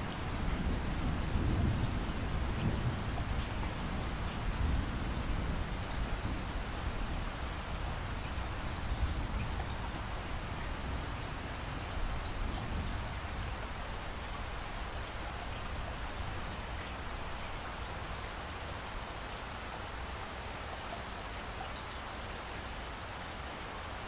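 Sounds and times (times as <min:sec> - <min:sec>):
rain pattering on a surface: 0:00.0 - 0:24.0.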